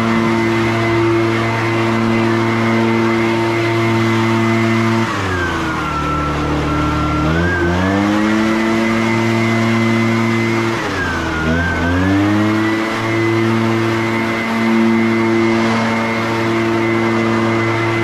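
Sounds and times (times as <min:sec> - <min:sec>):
leaf blower running: 0:00.0 - 0:18.0.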